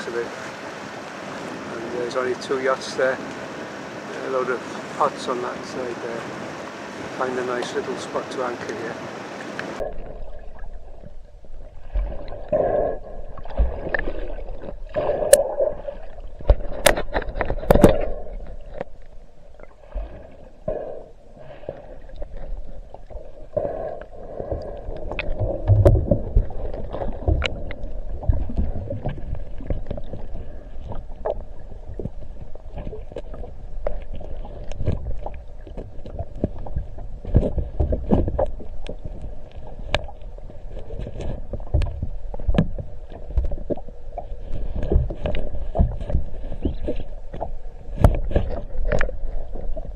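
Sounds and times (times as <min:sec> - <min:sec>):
water around boat: 0:00.0 - 0:49.9.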